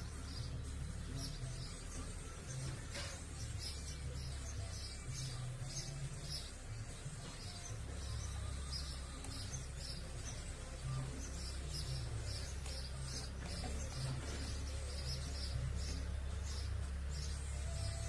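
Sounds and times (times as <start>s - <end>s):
bird chirping: 0.0s - 18.0s
steady low hum: 0.0s - 18.0s.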